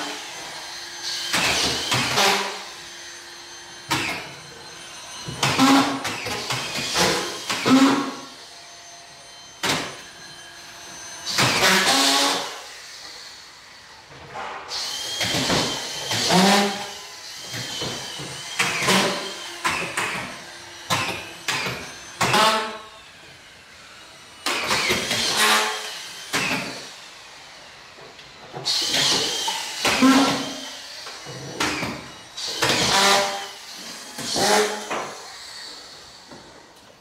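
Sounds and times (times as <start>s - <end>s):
screw gun motor whirs: 0.0s - 36.9s.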